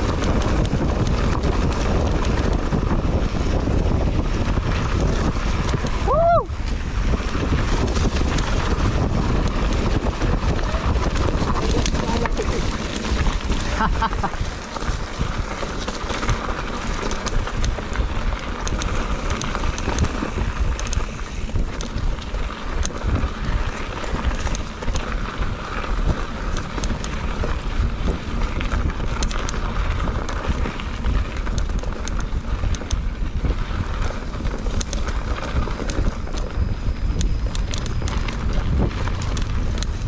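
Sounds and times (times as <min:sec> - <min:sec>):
bike clicking and clattering: 0:00.0 - 0:40.0
bike tyres on dirt: 0:00.0 - 0:40.0
wind rumbling on microphone: 0:00.0 - 0:40.0.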